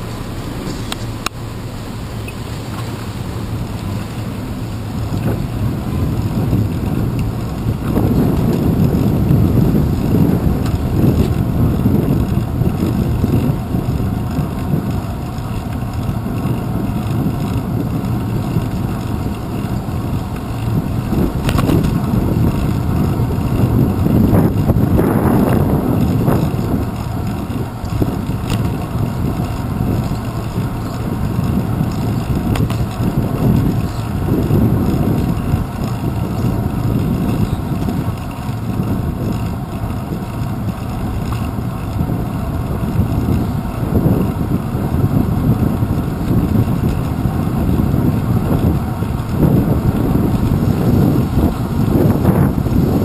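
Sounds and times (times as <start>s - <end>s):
road rumble: 0.0s - 53.0s
sharp clicks from road bumps: 0.0s - 53.0s
wind buffeting: 0.0s - 53.0s.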